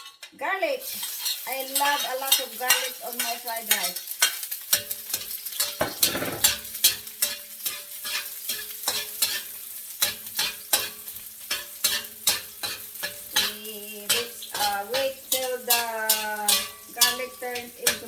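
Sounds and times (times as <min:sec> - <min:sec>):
garlic sizzling in hot oil: 0:00.0 - 0:18.0
spatula scraping a pan: 0:00.0 - 0:18.0
spatula clicking against pan: 0:01.8 - 0:18.0.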